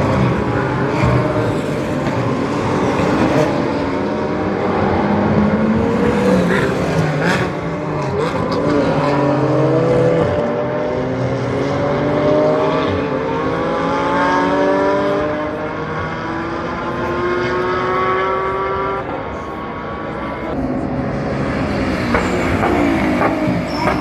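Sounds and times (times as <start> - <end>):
race car engines accelerating: 0.0 - 24.0.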